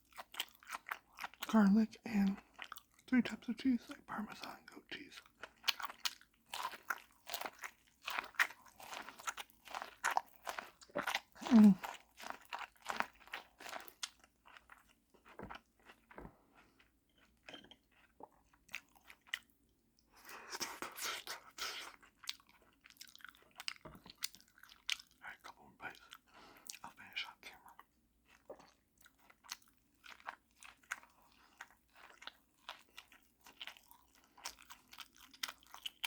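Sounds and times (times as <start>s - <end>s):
chewing and crunching food: 0.0s - 36.0s.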